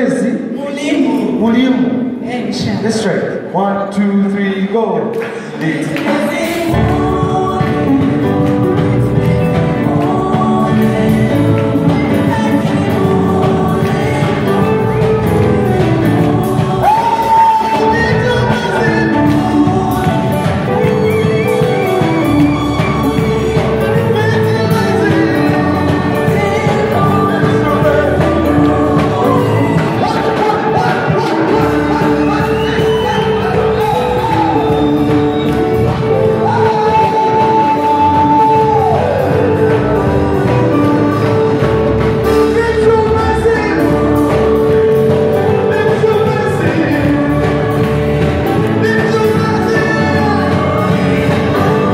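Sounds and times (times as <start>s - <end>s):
keyboard accompaniment: 5.0s - 51.9s
group singing gospel song: 5.3s - 51.9s.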